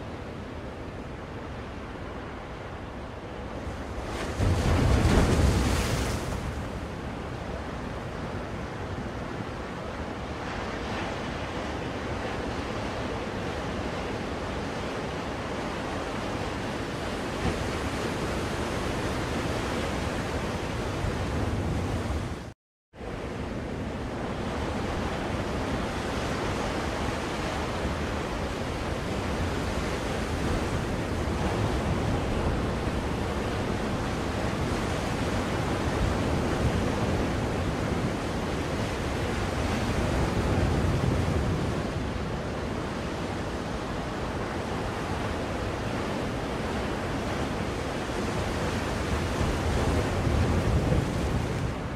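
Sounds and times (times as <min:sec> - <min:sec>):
ocean waves washing: 0:00.0 - 0:51.9.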